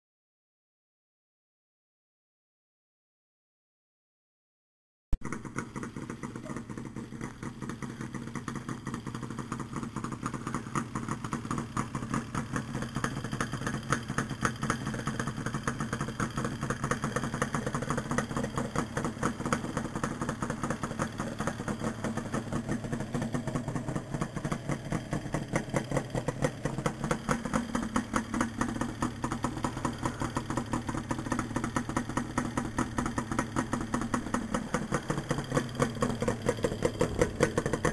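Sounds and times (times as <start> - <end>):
two-stroke motorcycle idling: 5.2 - 37.9.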